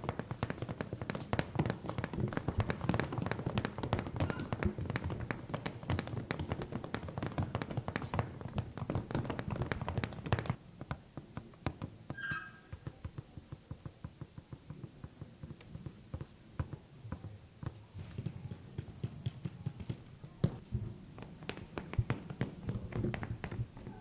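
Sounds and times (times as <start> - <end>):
rapid irregular tapping: 0.0 - 24.0.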